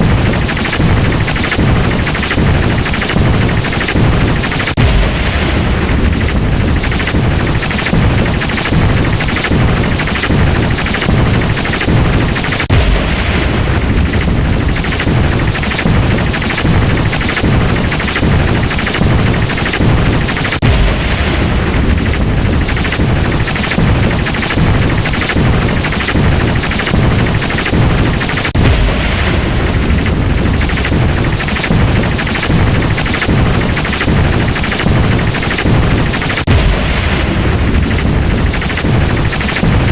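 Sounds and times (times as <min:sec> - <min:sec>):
lightning crack effects: 0:00.0 - 0:39.9
low thunder rumble: 0:00.0 - 0:39.9.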